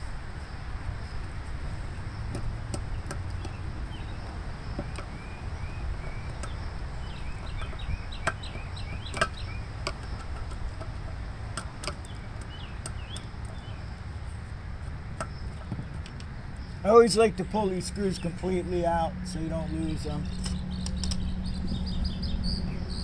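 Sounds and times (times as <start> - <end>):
bird chirping: 1.9 - 14.5, 15.1 - 23.0.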